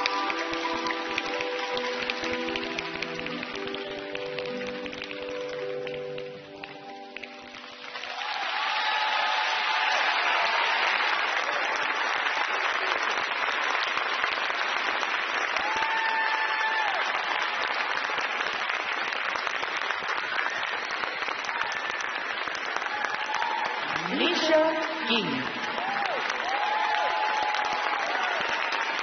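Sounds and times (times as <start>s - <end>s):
arena audience applauding: 0.0s - 29.0s.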